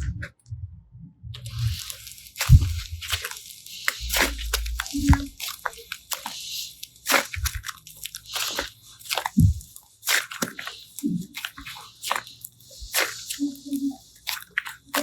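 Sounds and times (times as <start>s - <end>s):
slime squished by hand: 1.4s - 15.0s.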